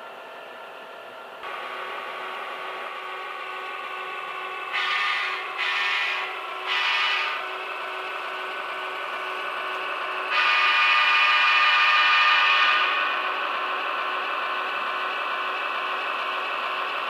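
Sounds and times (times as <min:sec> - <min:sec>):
model train motors whirring: 0:00.0 - 0:17.0.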